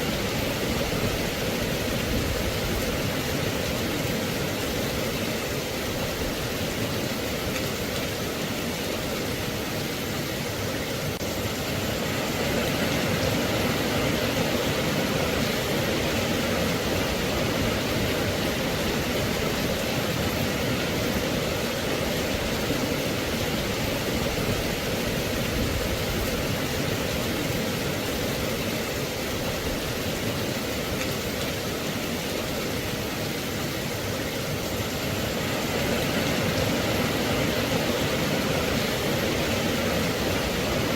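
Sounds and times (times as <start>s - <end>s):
steady rainfall hiss: 0.0s - 40.9s.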